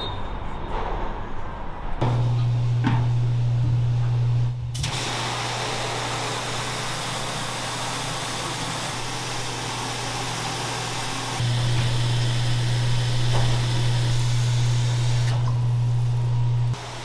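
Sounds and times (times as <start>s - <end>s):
low machine hum: 0.0s - 5.0s, 5.6s - 17.0s.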